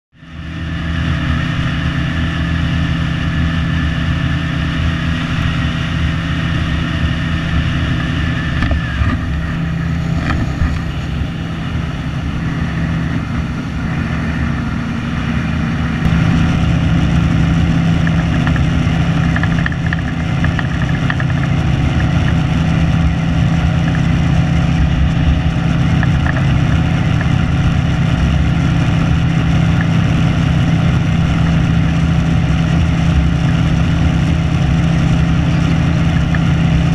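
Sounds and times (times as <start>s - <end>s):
outboard motor droning: 0.1s - 36.9s.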